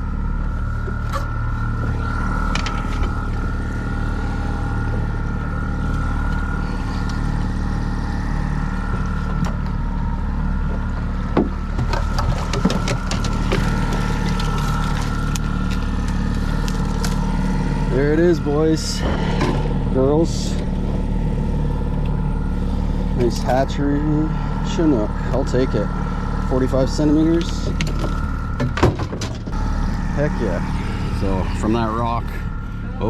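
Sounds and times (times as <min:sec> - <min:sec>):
boat engine running: 0:00.0 - 0:33.0.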